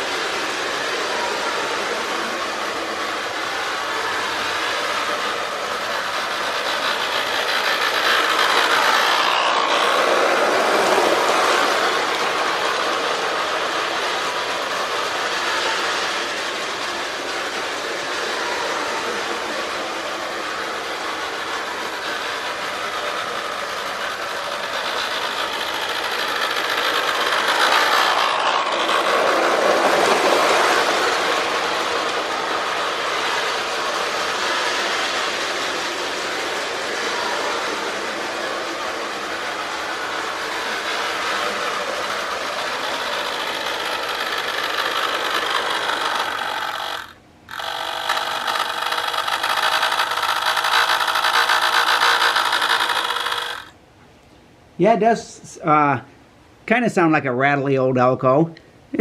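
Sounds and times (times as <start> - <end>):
toy locomotive rattling drone: 0.0 - 53.8.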